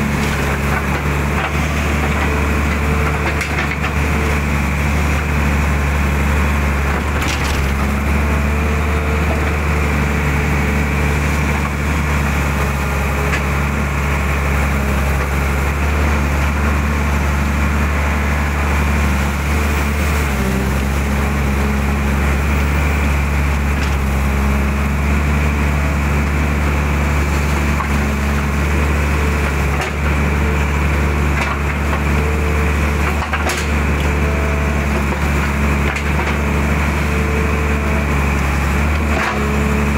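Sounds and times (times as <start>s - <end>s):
diesel engine running: 0.0s - 39.9s
hydraulic pump whine: 0.0s - 39.9s.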